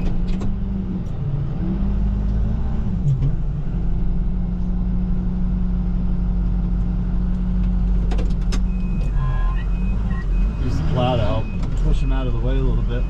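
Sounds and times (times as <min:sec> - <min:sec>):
truck engine deep hum: 0:00.0 - 0:13.0.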